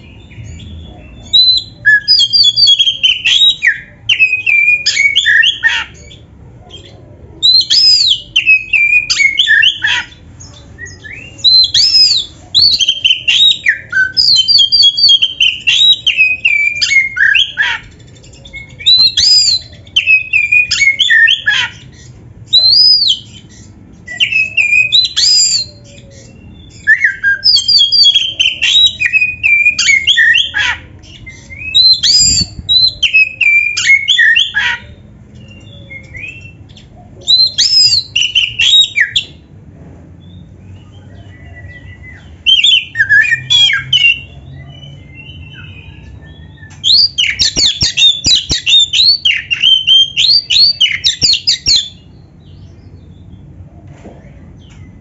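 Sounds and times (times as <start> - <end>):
bird singing whistles and chatter: 0.0 - 39.4, 40.2 - 52.6.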